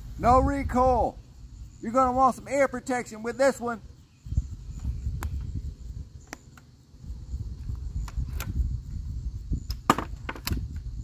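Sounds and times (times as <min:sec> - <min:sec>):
wind rumble on microphone: 0:00.0 - 0:02.4, 0:03.8 - 0:11.0.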